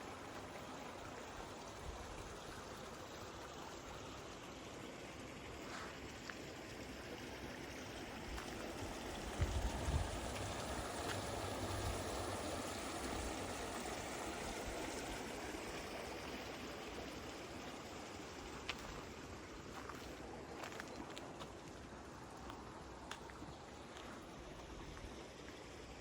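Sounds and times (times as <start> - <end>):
mountain stream rushing: 5.1 - 26.0.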